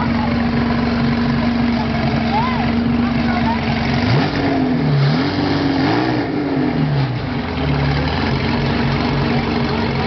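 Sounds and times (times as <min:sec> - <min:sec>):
car engine throttle blip and idle: 0:00.0 - 0:05.0, 0:06.4 - 0:10.0.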